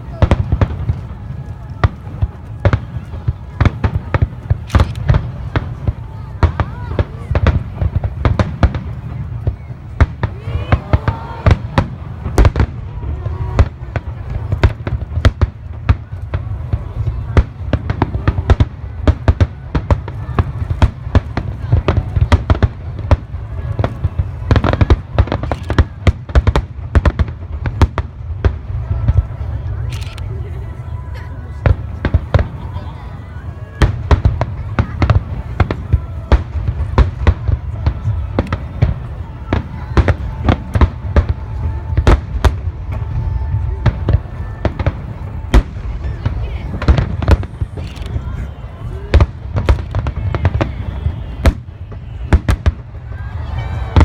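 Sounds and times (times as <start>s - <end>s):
fireworks bangs and crackles: 0.0s - 54.0s
low rumble of reports: 0.0s - 54.0s.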